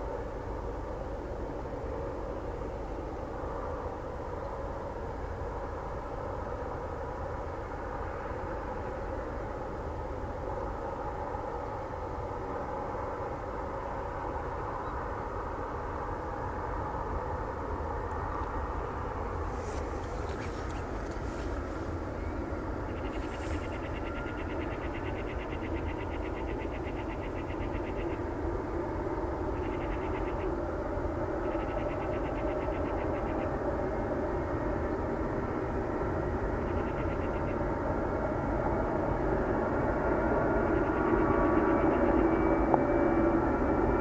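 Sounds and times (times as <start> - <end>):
helicopter rotor and engine rumble: 0.0 - 44.0.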